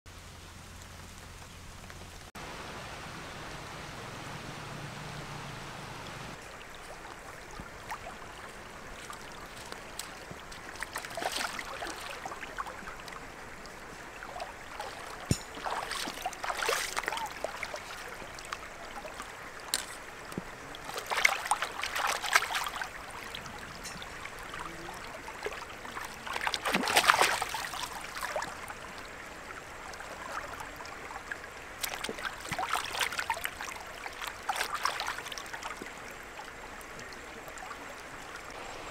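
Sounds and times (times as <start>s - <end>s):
rain pattering on water: 0.1s - 38.9s
stream trickling over rocks: 0.1s - 38.9s.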